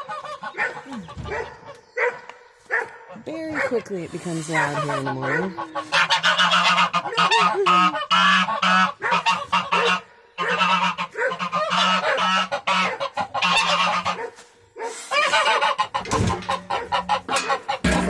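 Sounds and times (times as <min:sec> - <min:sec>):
geese honking: 0:00.0 - 0:02.1, 0:03.0 - 0:14.3, 0:14.9 - 0:18.0.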